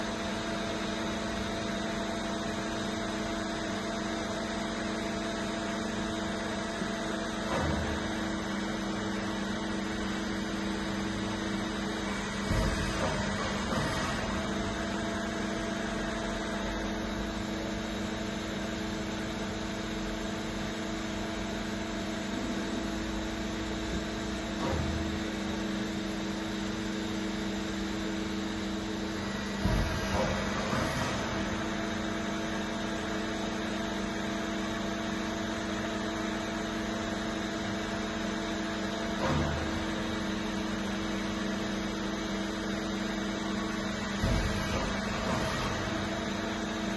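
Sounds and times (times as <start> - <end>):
hydraulic press humming: 0.0 - 46.9.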